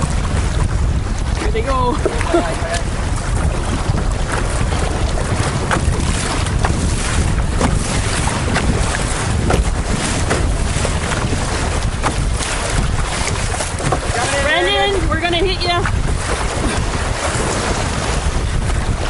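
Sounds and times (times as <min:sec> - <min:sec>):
water splashing against canoe: 0:00.0 - 0:19.0
wind buffeting microphone: 0:00.0 - 0:19.0.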